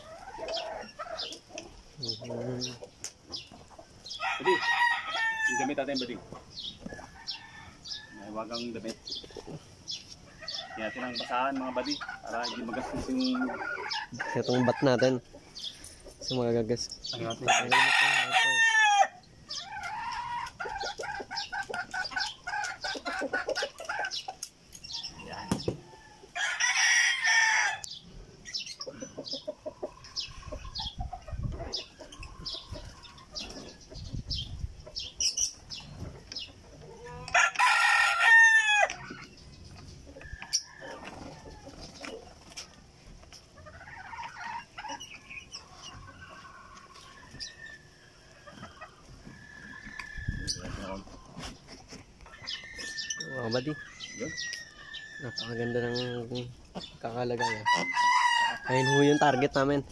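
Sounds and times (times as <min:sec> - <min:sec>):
chickens clucking: 0:00.0 - 0:59.9
roosters crowing: 0:00.0 - 0:59.9.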